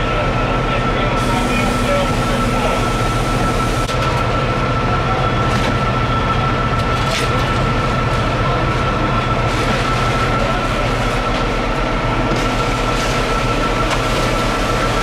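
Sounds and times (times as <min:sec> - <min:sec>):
fire truck engine droning: 0:00.0 - 0:15.0
high whine: 0:00.0 - 0:15.0.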